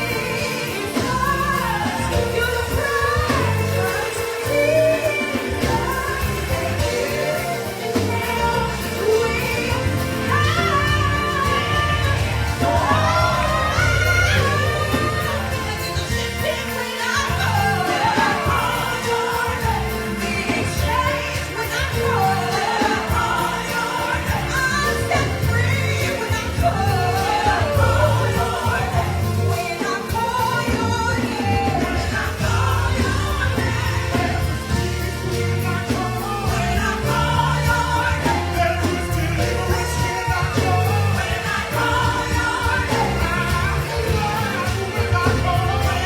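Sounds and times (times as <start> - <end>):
choir singing gospel: 0.0 - 46.0
live band with bass line: 0.0 - 46.0.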